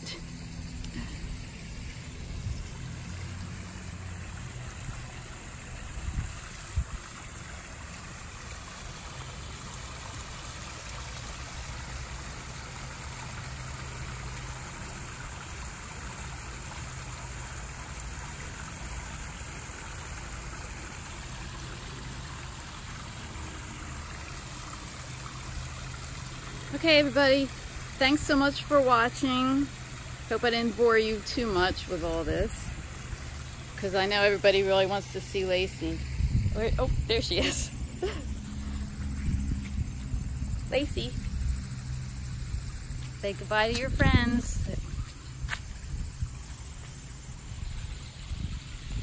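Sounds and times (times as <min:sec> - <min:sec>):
waterfall trickling and splashing: 0:00.0 - 0:49.0.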